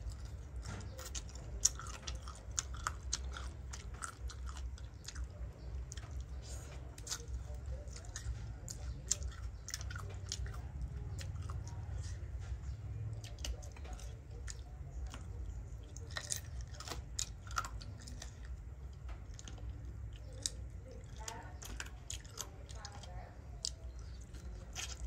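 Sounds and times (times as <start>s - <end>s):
person chewing crunchily: 0.0s - 25.0s.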